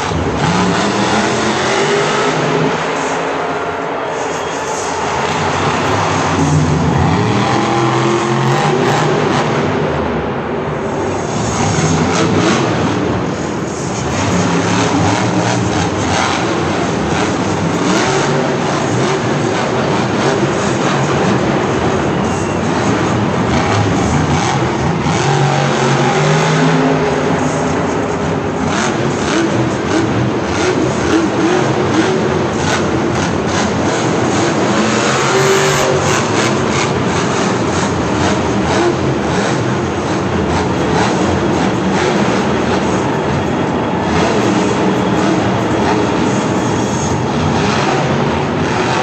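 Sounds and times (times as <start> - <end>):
monster truck engines revving: 0.0 - 49.0.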